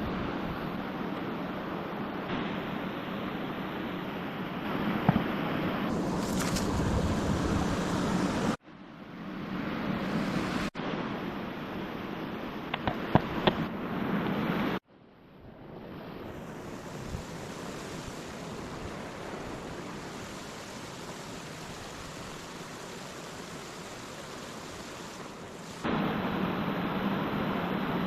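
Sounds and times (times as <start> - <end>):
steady rushing noise: 0.0 - 14.9, 15.7 - 28.0.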